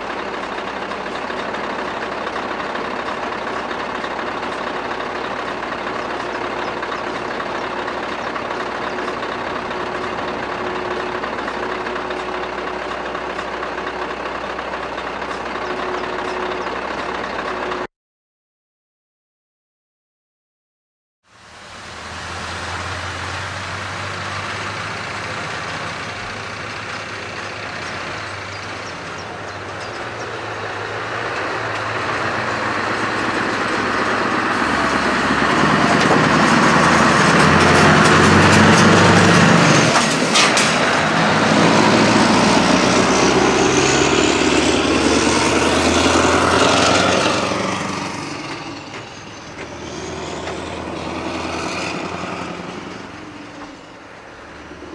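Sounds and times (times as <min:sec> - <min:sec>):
diesel truck driving past: 0:00.0 - 0:17.9, 0:21.3 - 0:54.9.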